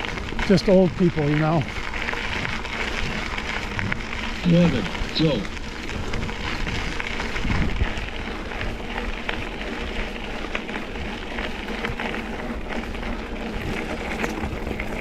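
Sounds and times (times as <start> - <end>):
bike rattles and clicks: 0.0 - 15.0
bike tyres rushing on dirt: 0.0 - 15.0.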